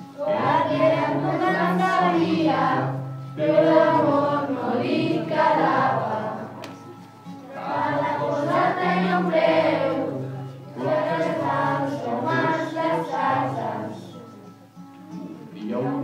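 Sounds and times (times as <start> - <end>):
children's choir singing: 0.0 - 14.4, 15.3 - 16.0.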